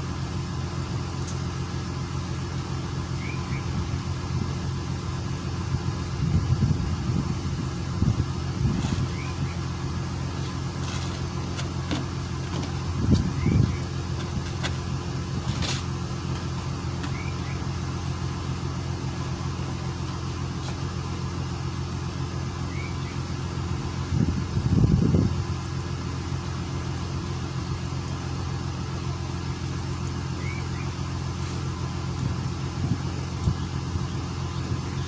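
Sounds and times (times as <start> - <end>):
boat engine droning: 0.0 - 35.0
low rumble: 0.0 - 35.0.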